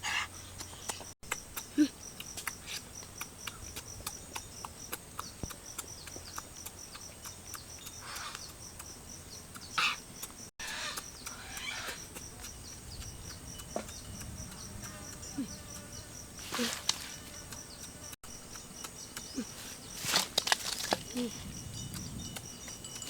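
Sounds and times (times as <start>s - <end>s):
cricket chirping: 0.0s - 23.0s
wet chewing clicks and smacks: 0.4s - 16.0s, 16.8s - 23.0s.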